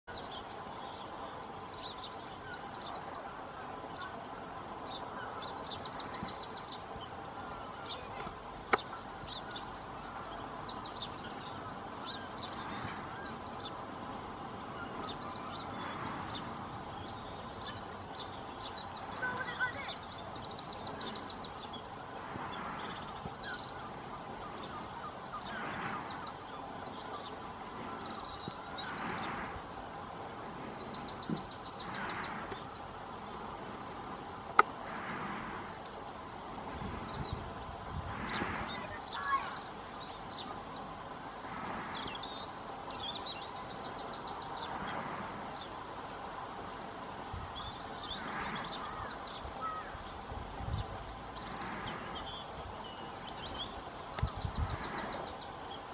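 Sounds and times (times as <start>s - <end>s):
small songbird singing: 0.0s - 29.4s, 30.0s - 46.5s, 47.2s - 55.9s.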